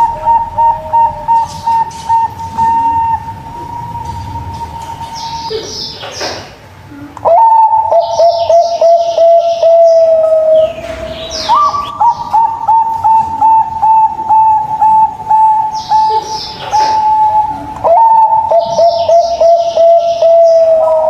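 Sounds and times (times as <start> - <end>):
doves cooing: 0.0 - 21.0
small birds chirping: 0.0 - 21.0.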